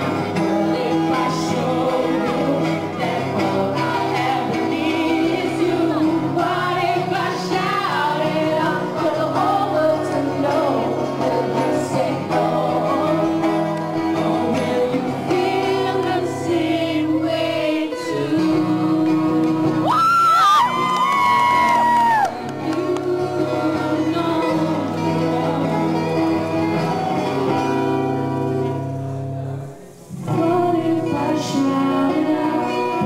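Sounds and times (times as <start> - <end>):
person singing: 0.0 - 28.2, 30.1 - 33.0.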